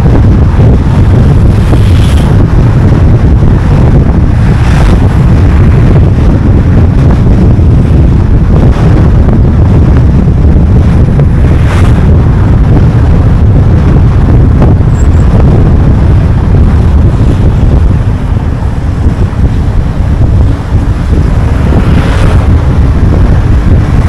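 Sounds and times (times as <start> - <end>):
car wind and road noise: 0.0 - 24.0.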